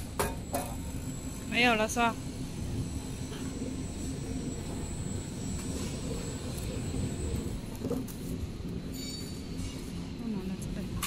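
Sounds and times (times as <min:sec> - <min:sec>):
packing machine drone: 0:00.0 - 0:11.0.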